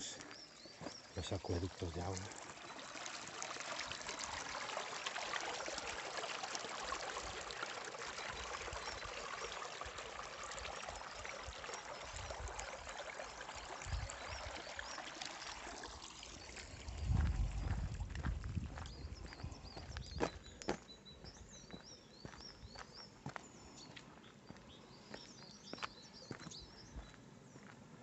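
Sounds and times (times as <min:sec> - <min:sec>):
water trickling in channel: 0:00.0 - 0:23.9.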